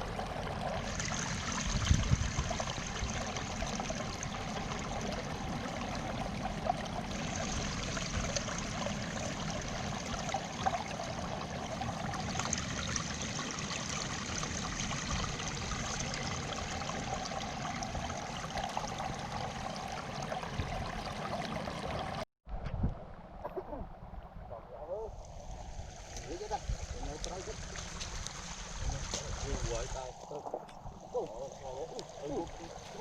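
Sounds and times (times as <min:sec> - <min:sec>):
flood water rushing: 0:00.0 - 0:22.2, 0:25.2 - 0:33.0.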